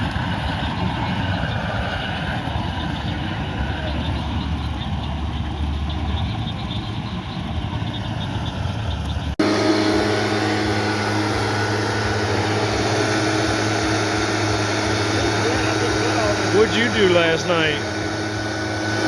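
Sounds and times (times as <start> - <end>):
low engine drone: 0.0 - 19.0
vehicle engine running: 0.0 - 19.0.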